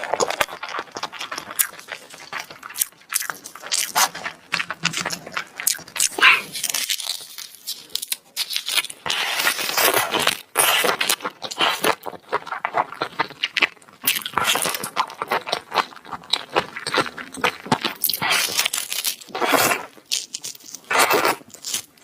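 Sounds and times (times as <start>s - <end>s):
person chewing and biting food: 0.0s - 22.0s.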